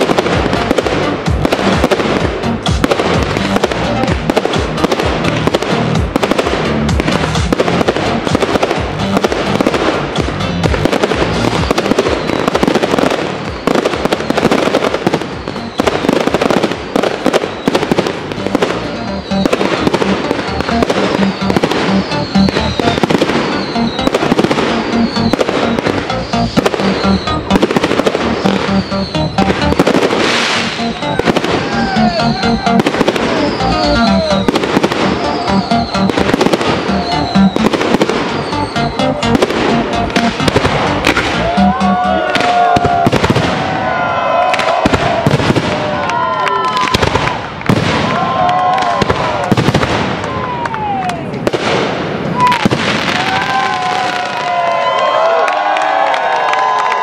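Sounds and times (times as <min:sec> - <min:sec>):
fireworks bursting and crackling: 0:00.0 - 0:56.8
music playing: 0:00.0 - 0:57.0.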